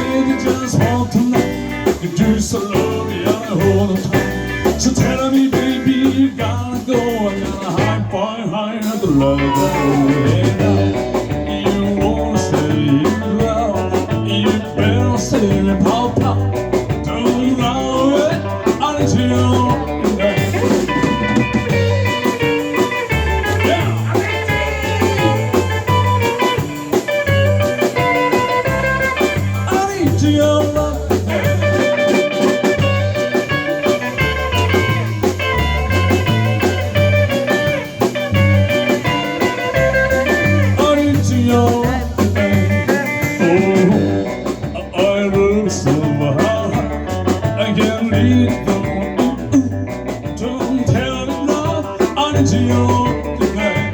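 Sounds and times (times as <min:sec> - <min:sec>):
bass guitar: 0:00.0 - 0:53.9
bluesy lead guitar: 0:00.0 - 0:53.9
drums: 0:00.0 - 0:53.9.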